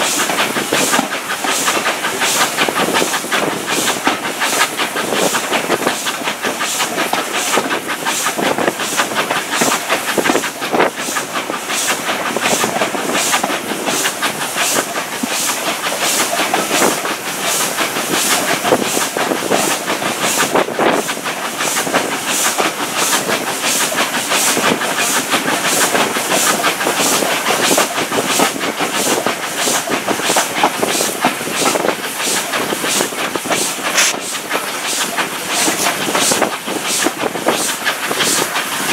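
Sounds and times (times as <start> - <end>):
steam train exhaust beats: 0.0 - 38.9
wheel and rail noise: 0.0 - 38.9.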